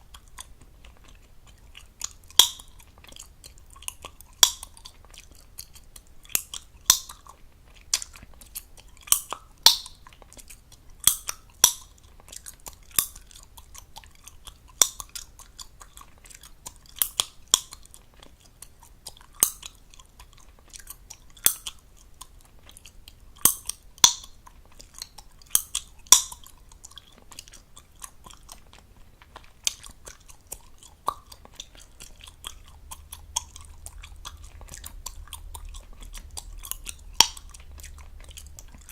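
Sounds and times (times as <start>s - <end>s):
gum chewing wet smacking: 0.0s - 38.9s.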